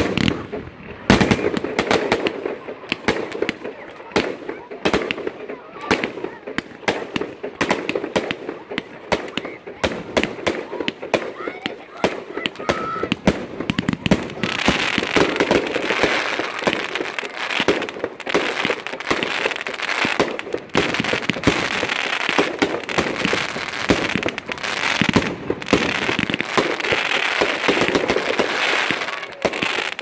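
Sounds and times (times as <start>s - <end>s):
firework aerial bursts: 0.0s - 30.0s
firework crackling: 0.0s - 30.0s.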